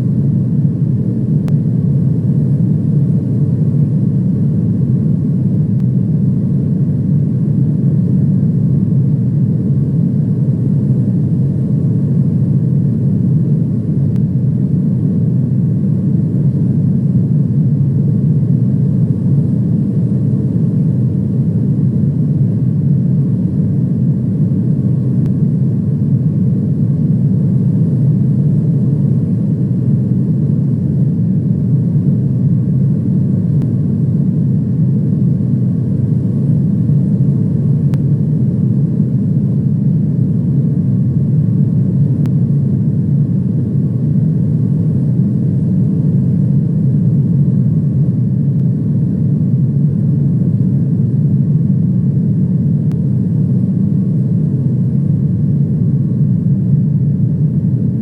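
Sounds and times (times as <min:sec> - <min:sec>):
airliner engine rumble: 0:00.0 - 0:58.0.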